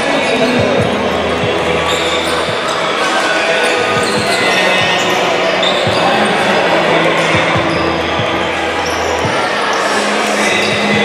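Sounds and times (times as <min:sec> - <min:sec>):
voices in a hall: 0:00.0 - 0:11.0.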